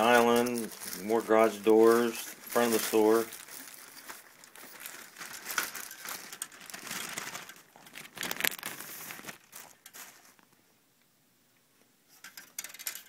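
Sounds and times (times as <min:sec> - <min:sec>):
plastic bags crinkling: 0:00.0 - 0:10.5.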